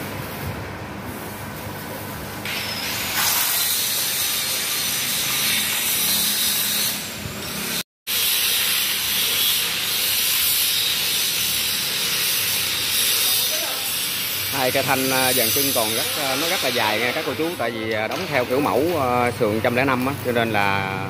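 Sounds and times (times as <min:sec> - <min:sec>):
metal grinding hiss: 0:02.5 - 0:20.6.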